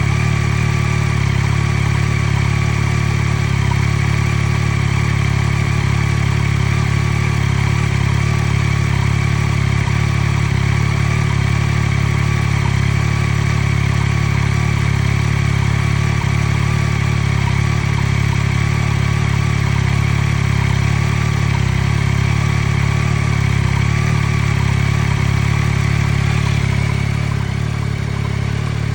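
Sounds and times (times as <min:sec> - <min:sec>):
engine ticking: 0:00.0 - 0:28.9
motorcycle engine idling: 0:00.0 - 0:28.9.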